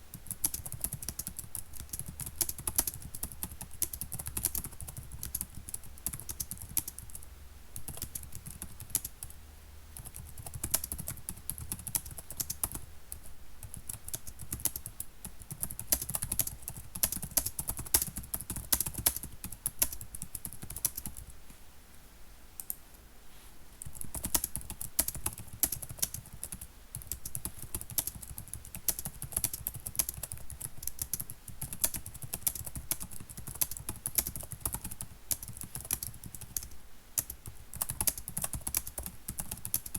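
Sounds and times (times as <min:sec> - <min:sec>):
computer keyboard typing: 0:00.2 - 0:07.2, 0:07.8 - 0:09.3, 0:10.0 - 0:21.3, 0:23.8 - 0:39.9.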